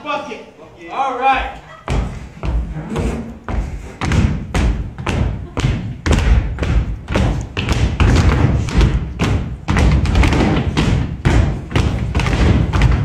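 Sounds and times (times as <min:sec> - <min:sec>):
loud thumps: 0:01.9 - 0:13.0.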